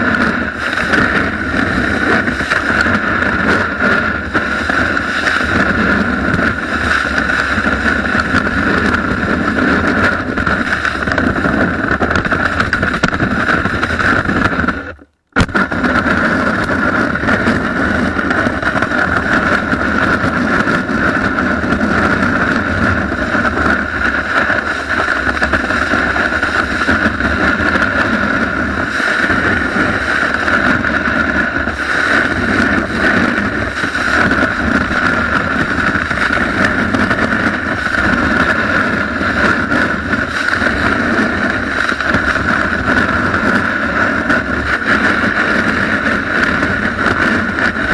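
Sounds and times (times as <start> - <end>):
snowboard sliding over snow: 0.0 - 47.9
wind on camera: 0.0 - 47.9.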